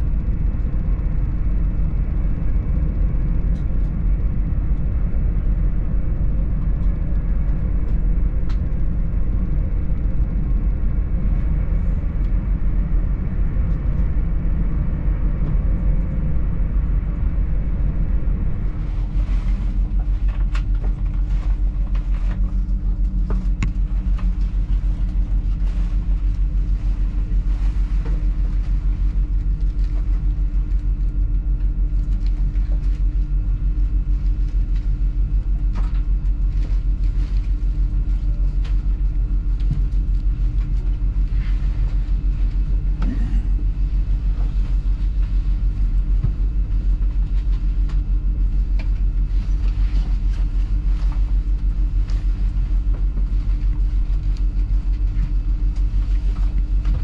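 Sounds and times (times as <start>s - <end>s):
train cabin rumble and hum: 0.0s - 57.0s.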